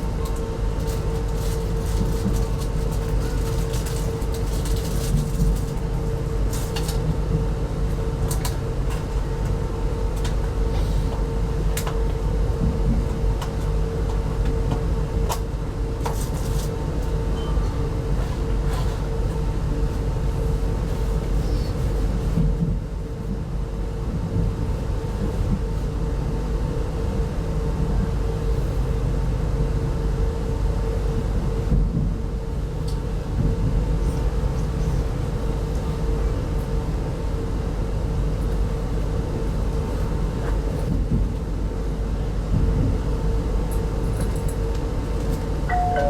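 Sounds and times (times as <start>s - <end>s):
constant hum: 0.0s - 46.0s
train running gear rumble: 0.0s - 46.0s.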